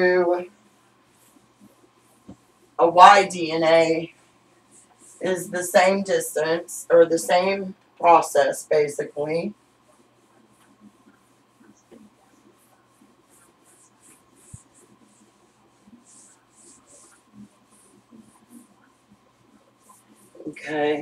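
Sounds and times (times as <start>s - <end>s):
eraser wiping whiteboard: 0.0s - 21.0s.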